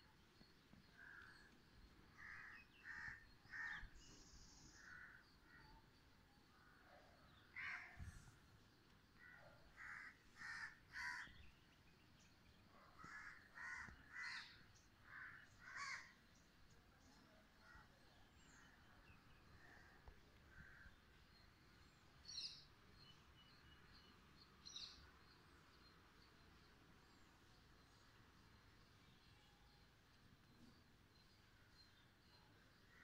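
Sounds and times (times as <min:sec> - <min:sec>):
faint outdoor background noise: 0:00.0 - 0:33.0.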